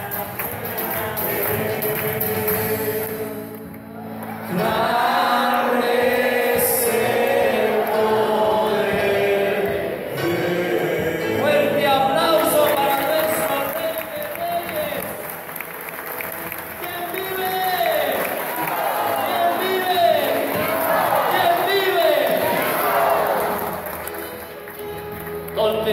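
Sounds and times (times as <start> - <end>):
congregation singing a hymn: 0.0 - 24.7
musical accompaniment: 0.0 - 25.9.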